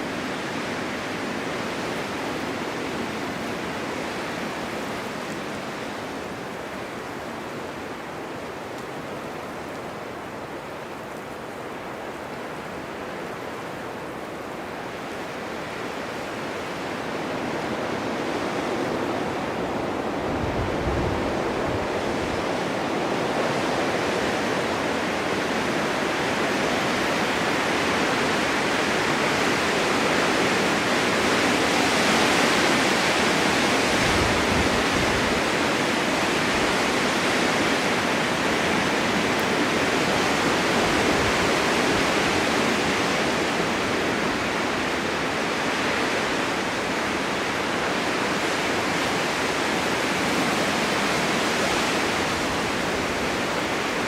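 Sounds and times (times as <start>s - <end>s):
blizzard wind blowing snow: 0.0s - 54.0s.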